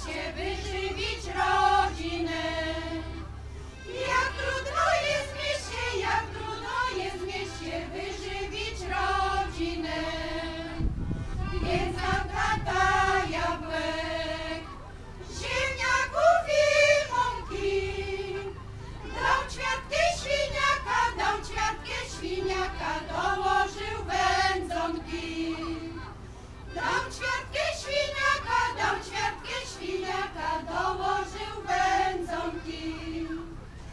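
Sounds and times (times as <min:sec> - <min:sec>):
accordion: 0:00.0 - 0:33.9
women's choir singing: 0:00.0 - 0:33.9.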